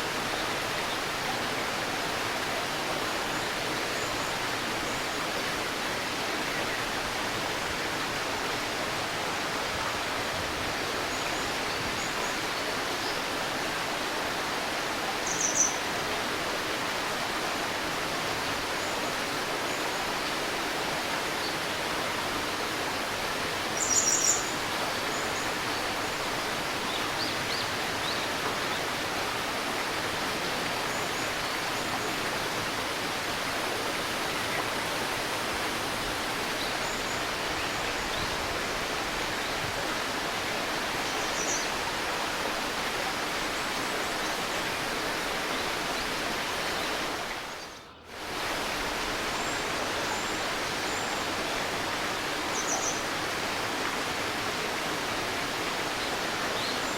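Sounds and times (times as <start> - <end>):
stream babbling: 0.0 - 56.9.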